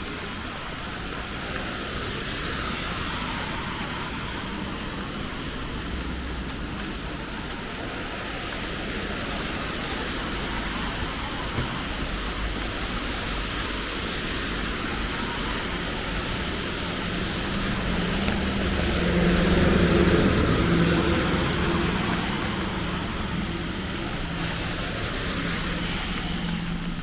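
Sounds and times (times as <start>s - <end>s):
rain hissing: 0.0s - 27.0s
vehicle engine approaching: 0.3s - 27.0s.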